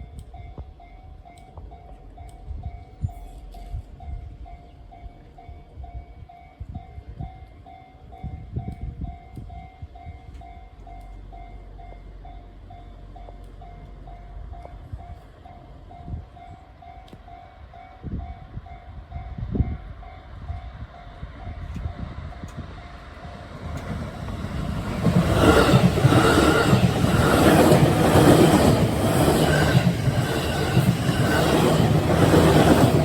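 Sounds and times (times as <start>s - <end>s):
electric train rumbling: 0.0s - 33.0s.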